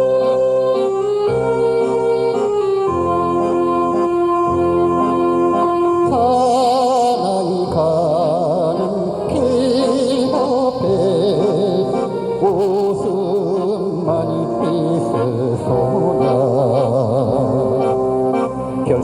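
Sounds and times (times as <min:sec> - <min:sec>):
held accompaniment: 0:00.0 - 0:19.0
slow melody with heavy vibrato: 0:00.0 - 0:19.0.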